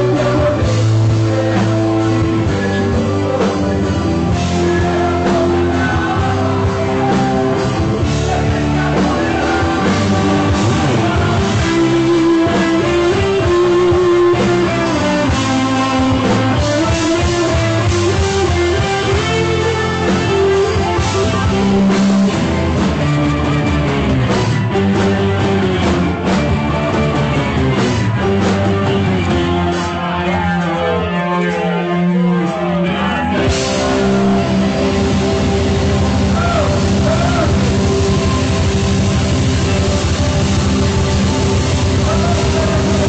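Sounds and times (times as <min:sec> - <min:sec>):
guitar-led rock music: 0:00.0 - 0:43.0.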